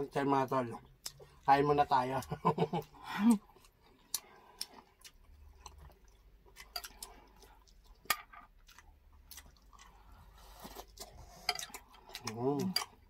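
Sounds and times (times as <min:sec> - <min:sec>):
wet chewing and lip smacks: 0:00.9 - 0:01.4, 0:02.9 - 0:13.0.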